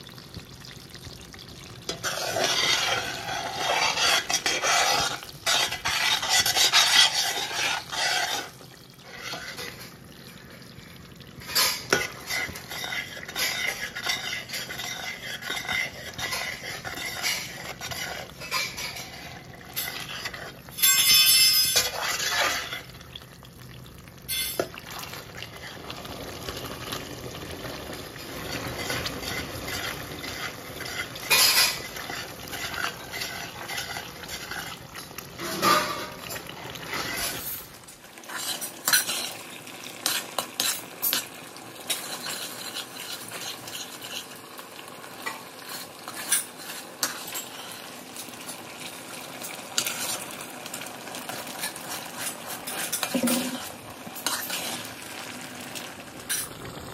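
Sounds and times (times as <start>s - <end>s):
mixture bubbling and sizzling: 0.0s - 56.9s
spoon scraping pan: 0.1s - 10.4s, 11.1s - 23.3s, 24.2s - 56.9s.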